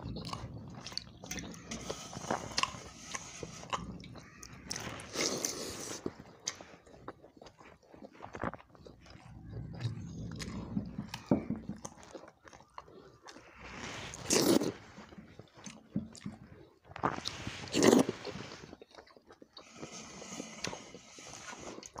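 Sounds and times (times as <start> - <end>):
person chewing with wet mouth sounds: 0.0 - 22.0.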